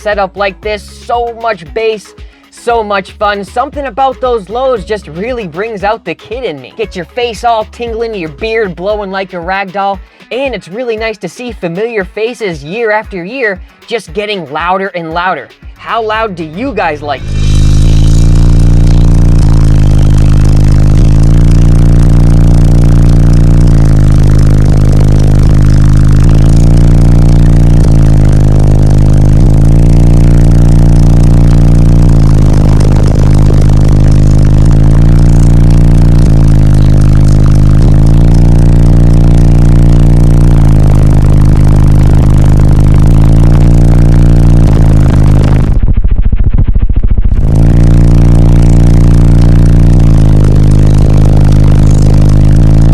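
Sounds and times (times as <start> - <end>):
bass-heavy music from car stereo: 0.0 - 45.9, 47.3 - 52.9.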